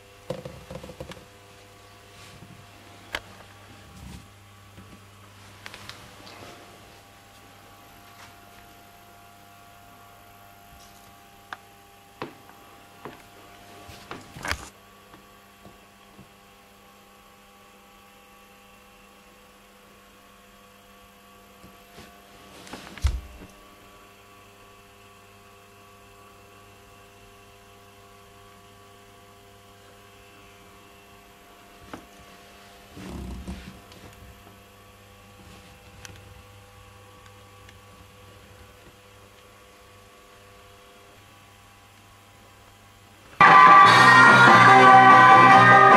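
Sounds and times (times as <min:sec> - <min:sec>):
jukebox electrical hum: 0:00.0 - 0:45.9.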